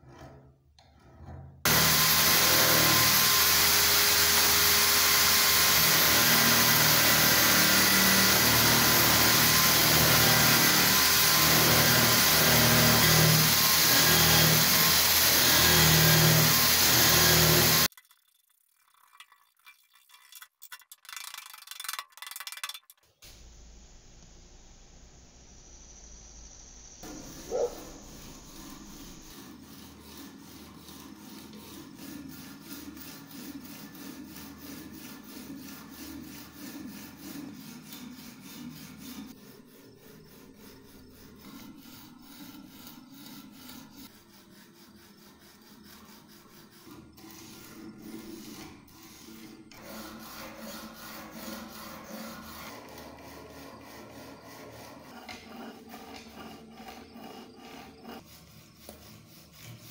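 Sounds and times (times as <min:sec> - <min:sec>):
hand file rasping: 0:01.7 - 0:17.9, 0:27.0 - 0:59.9.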